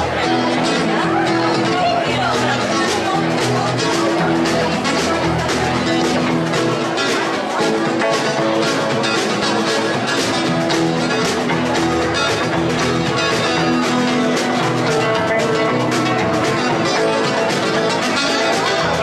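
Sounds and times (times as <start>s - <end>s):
acoustic guitar: 0.0s - 19.0s
drum kit beat: 0.0s - 19.0s
electric guitar: 0.0s - 19.0s.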